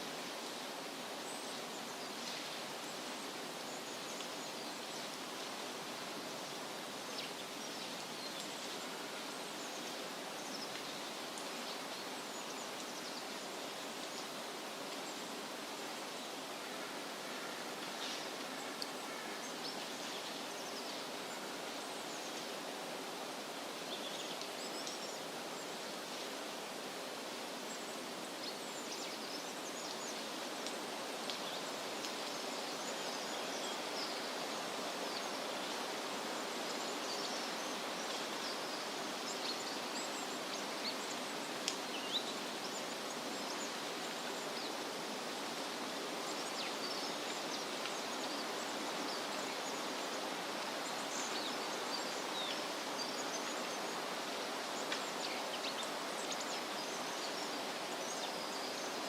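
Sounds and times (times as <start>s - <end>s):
wind rustling through trees: 0.0s - 59.0s.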